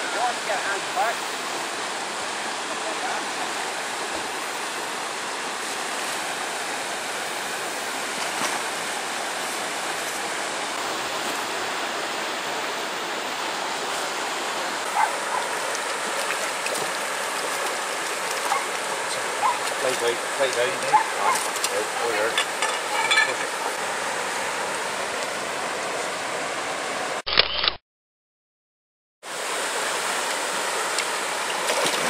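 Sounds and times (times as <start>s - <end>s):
river water rushing over rocks: 0.0s - 27.2s, 29.3s - 32.0s.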